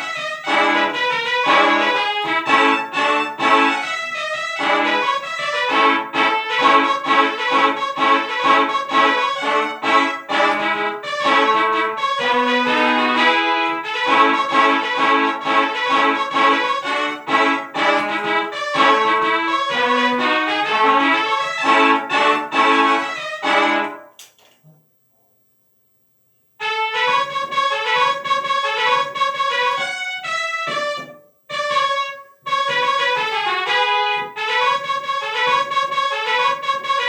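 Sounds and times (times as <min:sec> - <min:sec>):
upbeat instrumental music: 0:00.0 - 0:24.2, 0:26.6 - 0:37.0.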